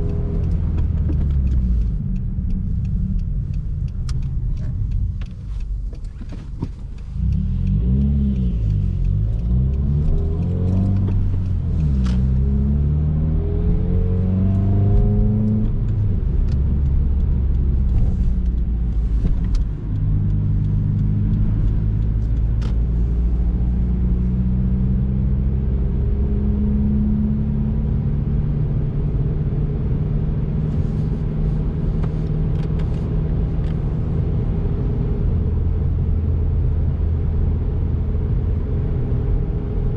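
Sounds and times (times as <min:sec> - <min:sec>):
car engine accelerating: 0:00.0 - 0:39.9
low road rumble: 0:00.0 - 0:39.9.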